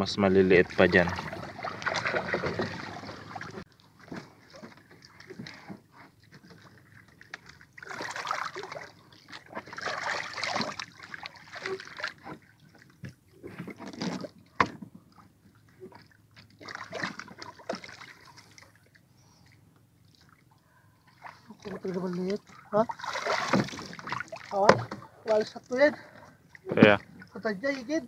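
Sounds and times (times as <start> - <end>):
water splashing against boat: 0.0 - 28.0.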